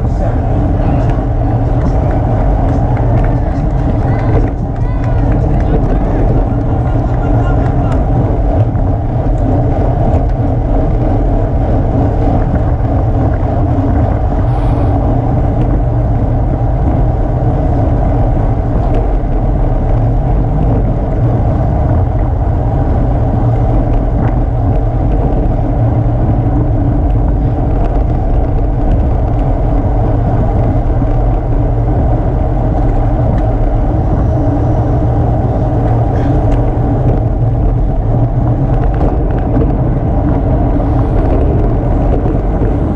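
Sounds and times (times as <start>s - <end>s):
wind rush on microphone: 0.0s - 42.9s.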